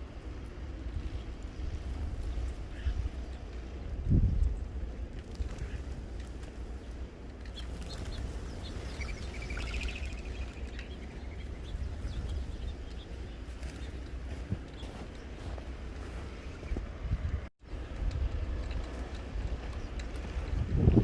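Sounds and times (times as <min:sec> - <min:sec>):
steady low rumble: 0:00.0 - 0:21.0
small birds chirping: 0:00.6 - 0:20.7.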